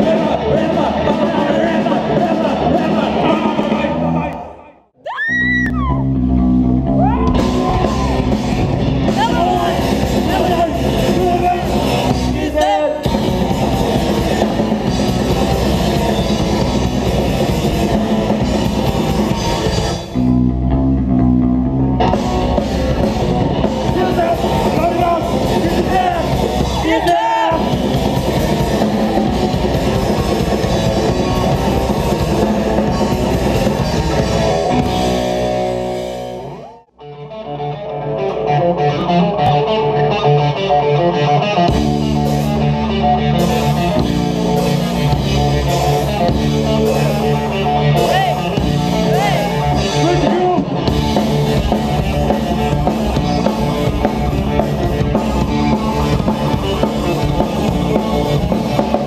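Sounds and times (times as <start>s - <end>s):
punk band playing live: 0.0s - 4.5s, 5.3s - 59.0s.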